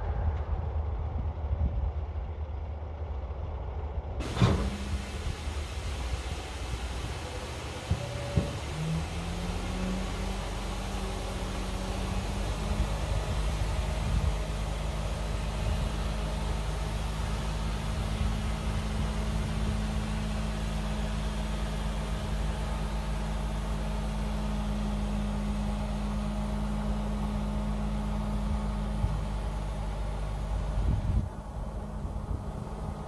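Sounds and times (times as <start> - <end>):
diesel truck engine running: 0.0 - 33.0.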